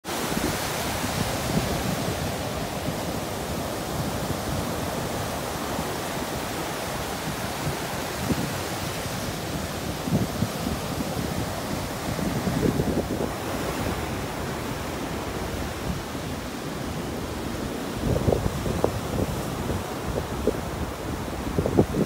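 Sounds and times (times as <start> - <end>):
waves breaking on beach: 0.0 - 22.0
wind rumbling on microphone: 0.1 - 22.0.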